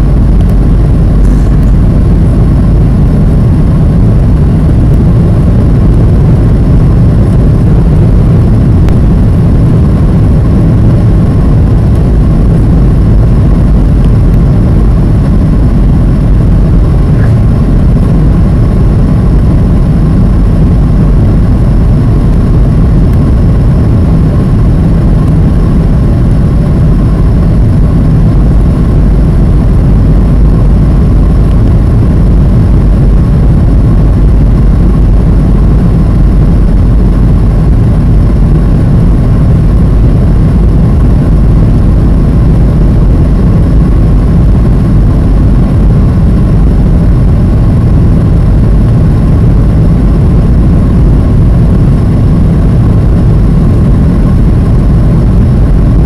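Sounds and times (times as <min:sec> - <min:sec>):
airplane cabin roar: 0:00.0 - 0:56.0
faint steady whine: 0:00.0 - 0:56.0.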